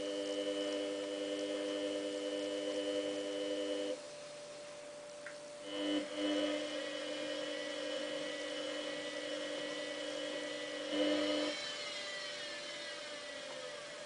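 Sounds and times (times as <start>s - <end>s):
washing machine drum motor whining: 0.0s - 4.0s, 5.5s - 14.0s.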